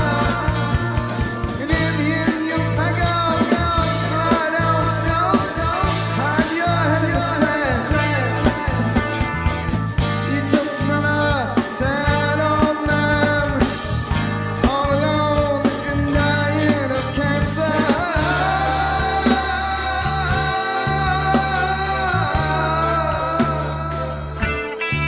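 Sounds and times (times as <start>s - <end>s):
bass guitar: 0.0s - 25.0s
drums: 0.0s - 25.0s
electric guitar: 0.0s - 25.0s
man singing lead vocals: 0.0s - 25.0s.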